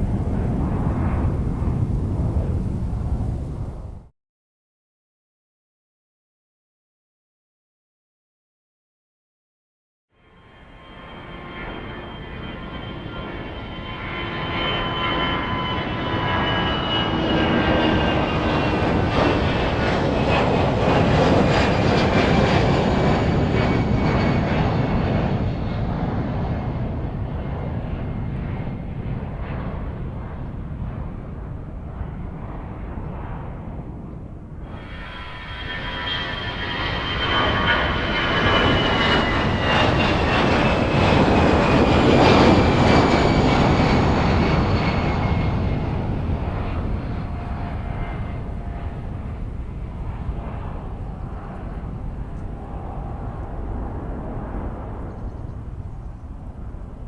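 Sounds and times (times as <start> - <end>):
jet engine roar at takeoff: 0.0 - 4.1, 10.3 - 57.0.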